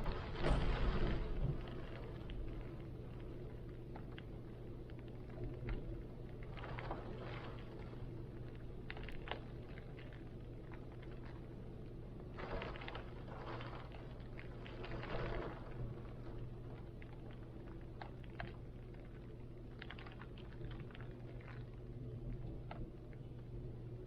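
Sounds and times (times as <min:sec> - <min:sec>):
raindrops ticking and tapping: 0:00.0 - 0:23.8
steady low rumble: 0:00.0 - 0:24.0.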